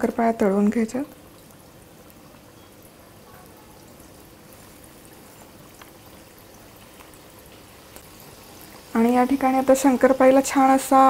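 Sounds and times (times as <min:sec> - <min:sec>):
dough deep-frying in oil: 0:00.0 - 0:11.0.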